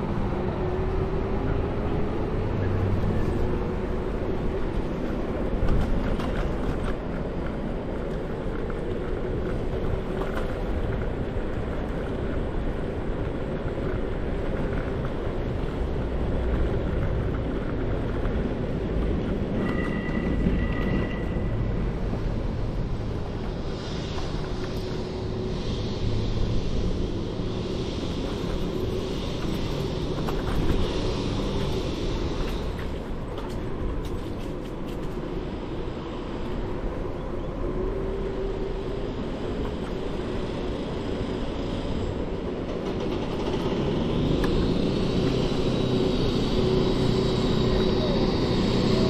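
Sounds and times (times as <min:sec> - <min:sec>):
rolling road noise: 0:00.0 - 0:49.0
wind rush on microphone: 0:00.0 - 0:49.0.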